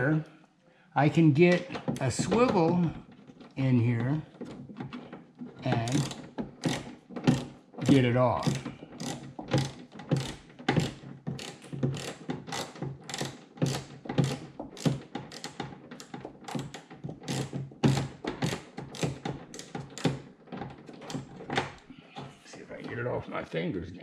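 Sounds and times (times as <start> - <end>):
hand ratchet clicking: 1.5 - 21.8.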